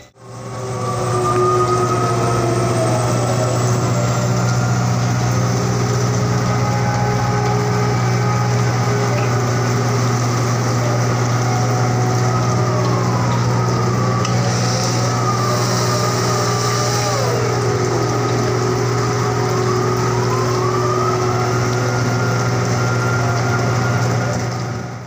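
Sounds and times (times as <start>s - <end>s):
diesel machinery droning: 0.0s - 25.0s
winch whine: 0.0s - 25.0s.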